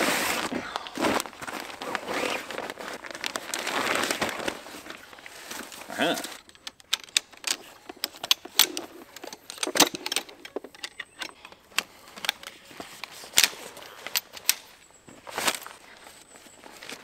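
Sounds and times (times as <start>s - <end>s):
quiet rustling: 0.2s - 17.0s
camping gear clicking and clacking: 0.3s - 17.0s.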